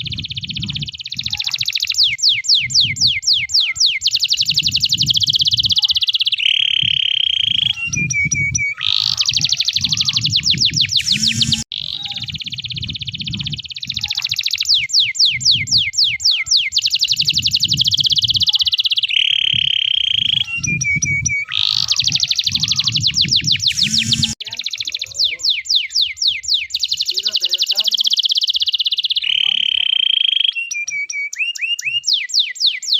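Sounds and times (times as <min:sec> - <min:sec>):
canary singing trills: 0:00.0 - 0:32.9.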